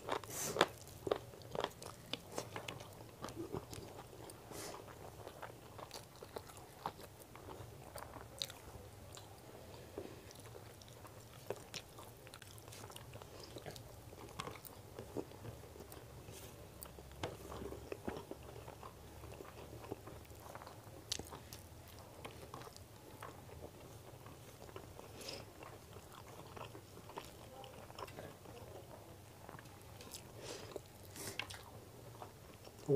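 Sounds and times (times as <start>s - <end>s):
wet chewing with mouth clicks: 0.0s - 32.9s.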